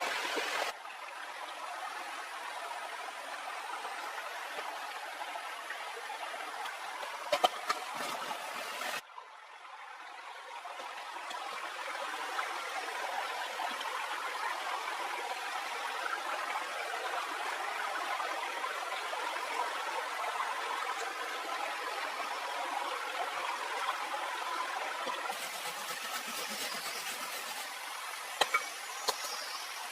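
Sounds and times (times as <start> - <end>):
running water rushing: 0.0 - 9.0, 10.1 - 29.9.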